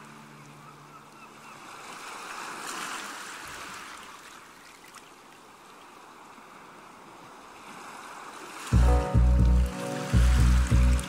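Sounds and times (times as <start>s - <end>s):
ocean waves washing ashore: 0.0s - 11.0s.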